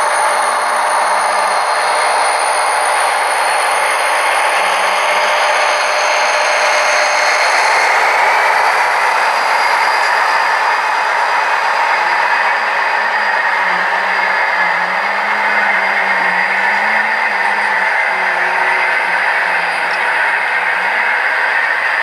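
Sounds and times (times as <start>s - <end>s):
faint wavering hum: 0.0s - 22.0s
model train wheels rumbling: 0.0s - 22.0s.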